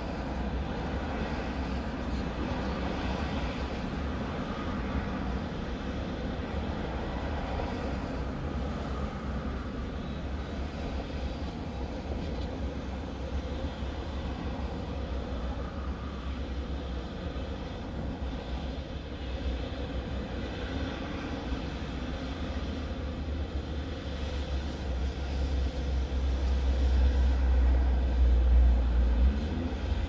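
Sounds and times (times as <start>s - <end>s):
passing vehicle: 0.0s - 30.0s.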